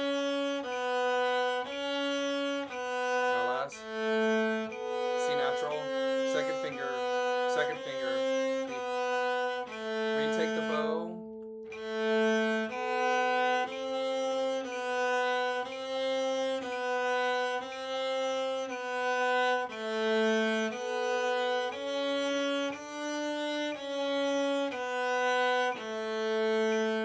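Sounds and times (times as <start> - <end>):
bowed string instrument notes: 0.0 - 27.0.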